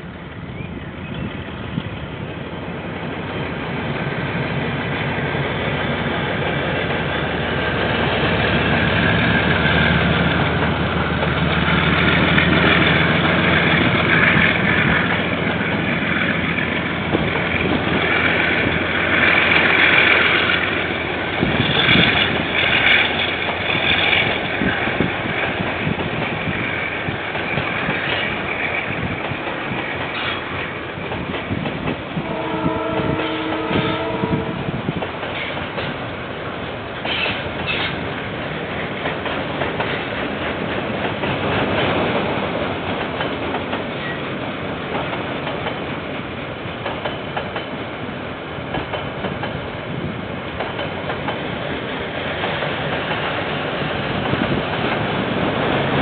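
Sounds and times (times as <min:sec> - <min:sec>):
diesel locomotive engine running: 0:00.0 - 0:56.0
train wagons rolling on rails: 0:00.0 - 0:56.0.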